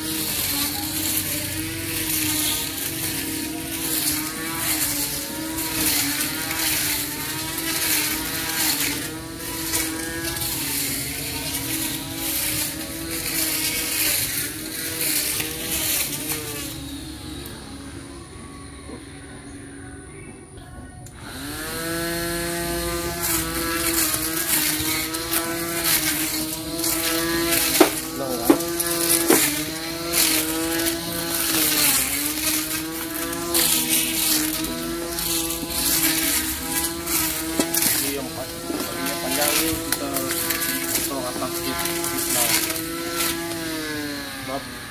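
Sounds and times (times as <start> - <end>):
electric grass trimmer: 0.0 - 19.8, 20.6 - 44.9.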